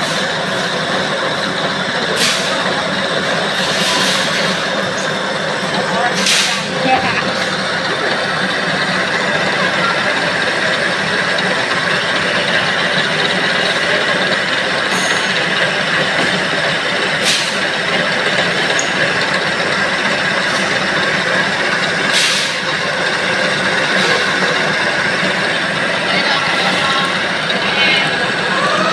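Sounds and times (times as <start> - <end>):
workshop machinery running: 0.0 - 28.9.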